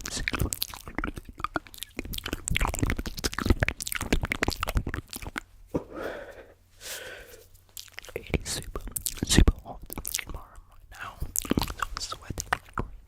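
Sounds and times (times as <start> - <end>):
mouth clicks and smacks: 0.0 - 6.6, 7.3 - 13.0
breathy mouth sounds: 0.0 - 13.0.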